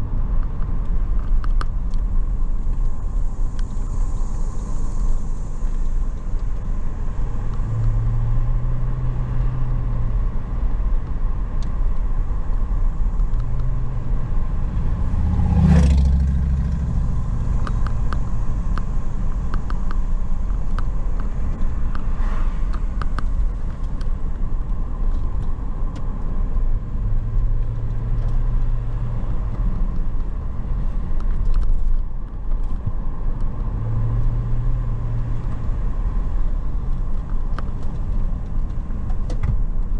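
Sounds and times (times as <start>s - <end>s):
car engine: 0.0s - 39.9s
road rumble: 0.0s - 39.9s.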